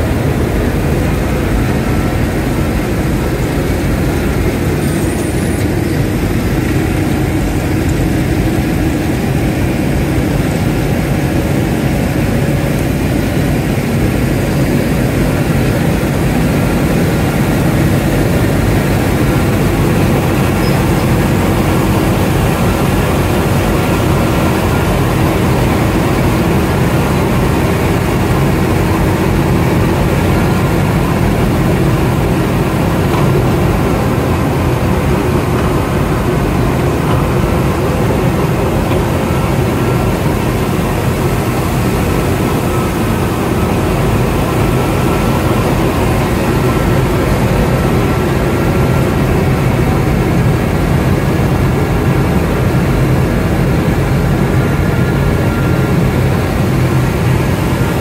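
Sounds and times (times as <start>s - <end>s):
heavy diesel machinery droning: 0.0s - 58.0s.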